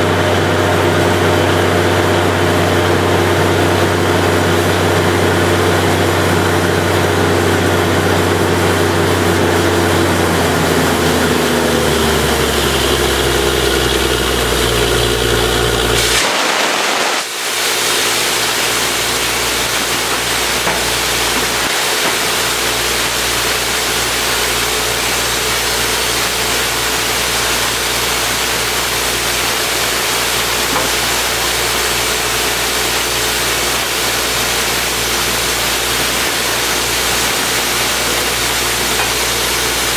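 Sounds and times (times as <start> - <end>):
drilling rig engine running: 0.0 - 39.9
loud rushing hiss: 2.6 - 39.9.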